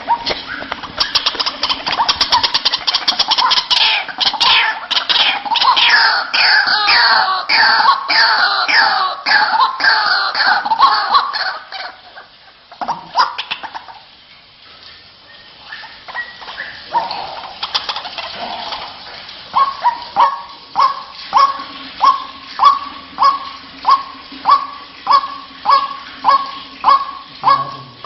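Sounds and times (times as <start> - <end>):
waterhen calling: 0.0 - 28.0.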